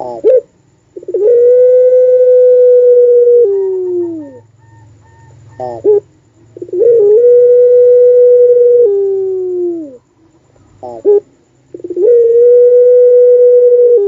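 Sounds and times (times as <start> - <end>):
dove long howl-like coo: 0.0 - 10.1, 10.8 - 14.0.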